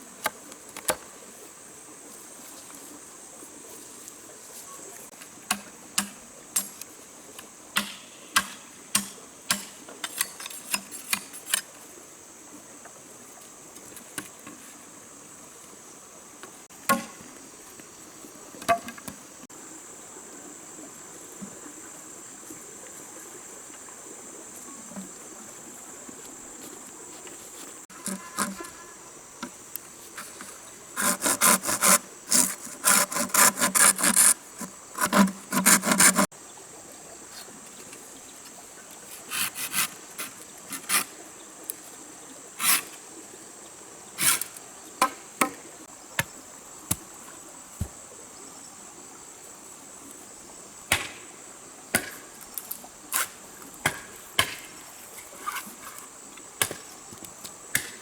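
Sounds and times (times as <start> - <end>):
insects droning high-pitched: 0.0 - 58.0.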